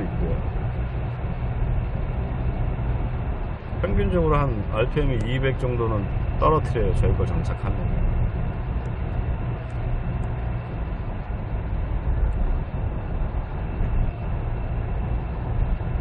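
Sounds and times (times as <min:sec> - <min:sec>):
car engine drone inside cabin: 0:00.0 - 0:16.0
road and tyre noise: 0:00.0 - 0:16.0.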